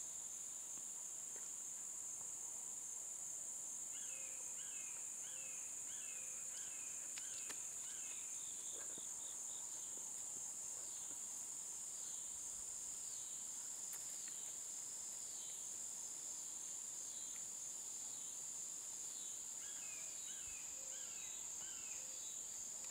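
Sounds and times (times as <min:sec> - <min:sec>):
high-pitched insect chorus: 0:00.0 - 0:22.9.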